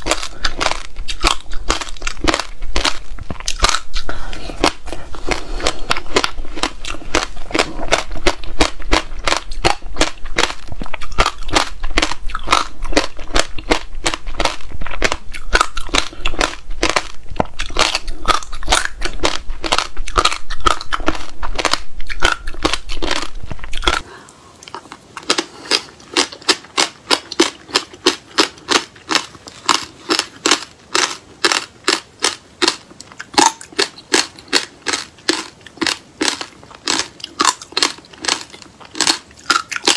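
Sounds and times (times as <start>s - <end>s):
chewing crunchy seeds: 0.0s - 39.9s.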